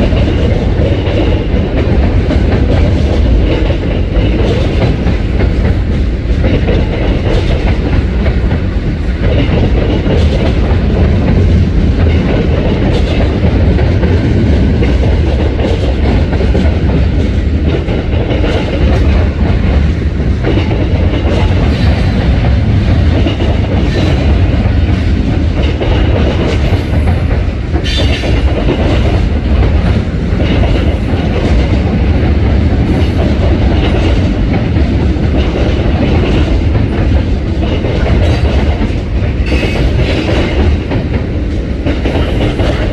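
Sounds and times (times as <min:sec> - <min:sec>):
train wheels clicking on rails: 0:00.0 - 0:42.9.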